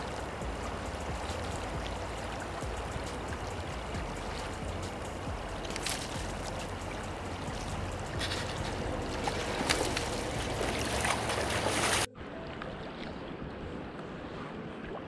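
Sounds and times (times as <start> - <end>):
river water rushing: 0.0 - 12.1.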